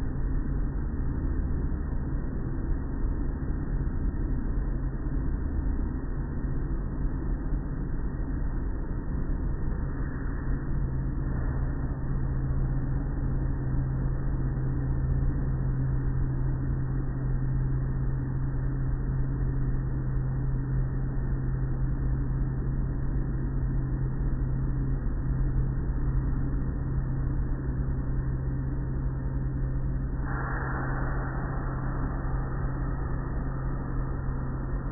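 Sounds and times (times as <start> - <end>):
car wash machinery drone: 0.0 - 34.9.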